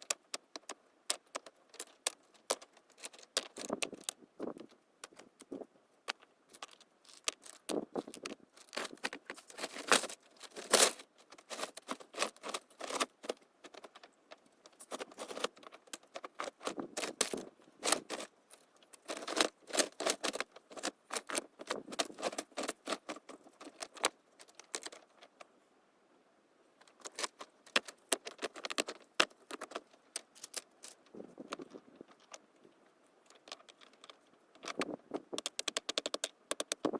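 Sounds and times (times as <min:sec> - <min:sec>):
irregular clicking and clattering: 0:00.0 - 0:25.5, 0:26.8 - 0:36.9.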